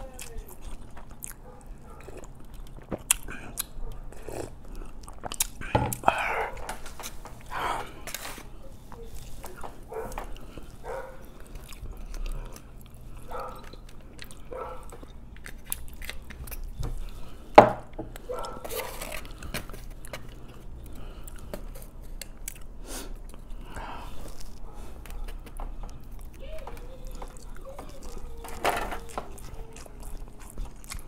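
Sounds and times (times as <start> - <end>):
chewing and mouth sounds: 0.0 - 8.3, 8.9 - 31.0.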